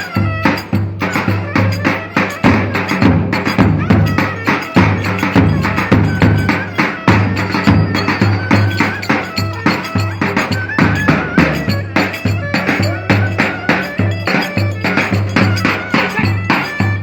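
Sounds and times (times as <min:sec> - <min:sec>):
high wavering melody: 0:00.0 - 0:17.0
loud drum beat: 0:00.0 - 0:17.0
sharp clacking percussion: 0:00.0 - 0:17.0.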